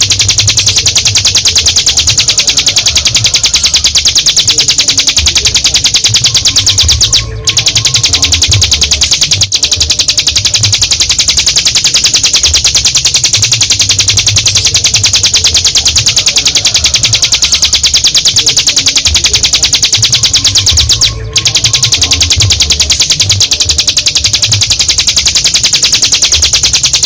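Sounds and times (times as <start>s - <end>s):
bird high-pitched trill: 0.0s - 27.0s.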